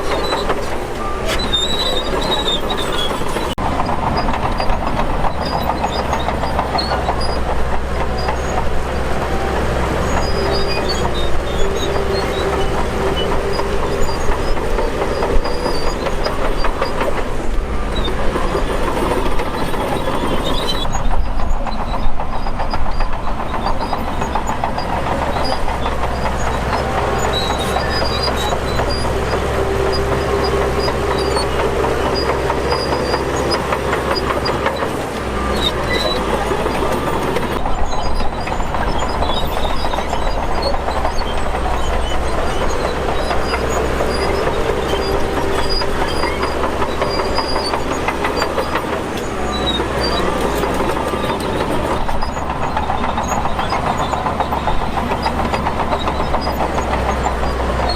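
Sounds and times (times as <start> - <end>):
bulldozer diesel engine: 0.0 - 57.9
steel tracks clanking: 0.0 - 57.9
tracks squealing: 0.0 - 57.9.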